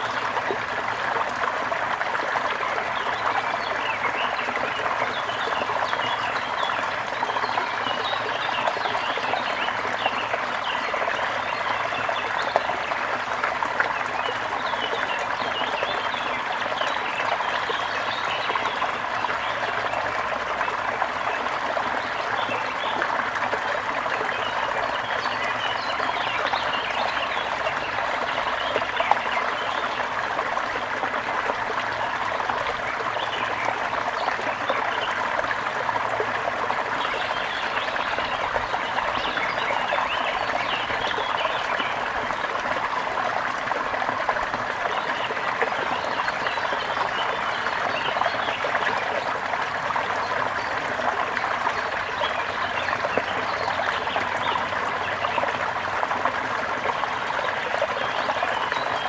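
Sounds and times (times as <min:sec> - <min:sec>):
brook babbling over stones: 0:00.0 - 0:59.0.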